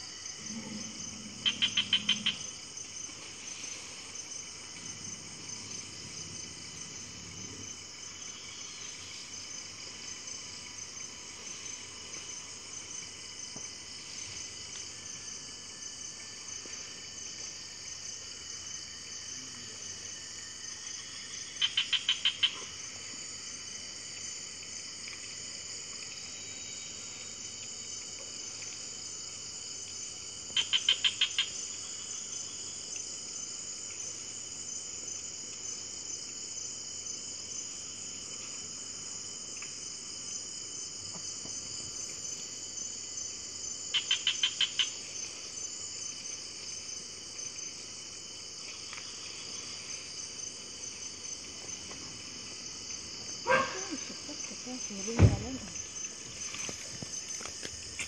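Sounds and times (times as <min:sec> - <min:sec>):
insect chorus buzzing: 0:00.0 - 0:58.0.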